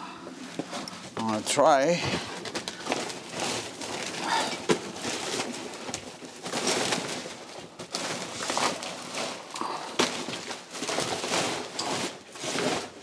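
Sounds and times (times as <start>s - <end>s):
bulk bag rustling: 0.5s - 13.0s.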